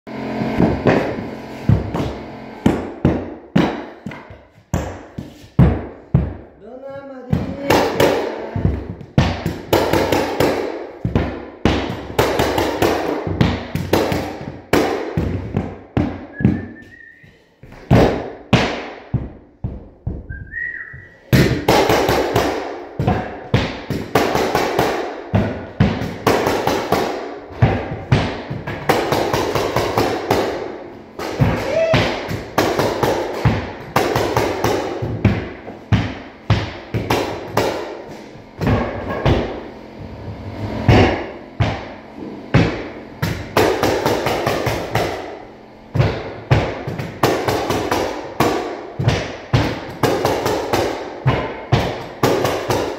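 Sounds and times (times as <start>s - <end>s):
mallet striking flooring nailer: 0.1s - 6.5s, 7.3s - 16.8s, 17.6s - 20.3s, 21.2s - 52.9s.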